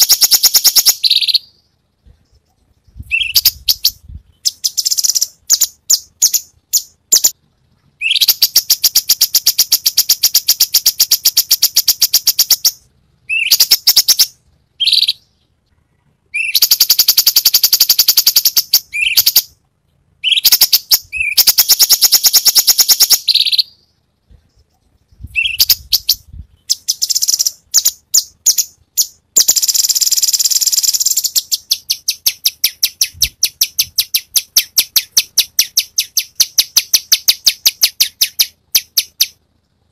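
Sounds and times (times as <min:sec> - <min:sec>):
bird singing rattling trills: 0:00.0 - 0:19.6, 0:20.2 - 0:39.5.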